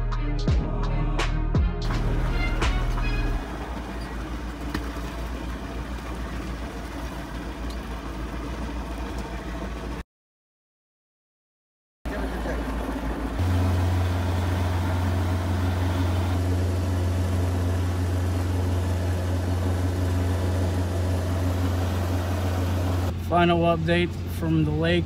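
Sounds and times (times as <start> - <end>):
boat engine droning: 1.9 - 10.0, 12.1 - 25.0.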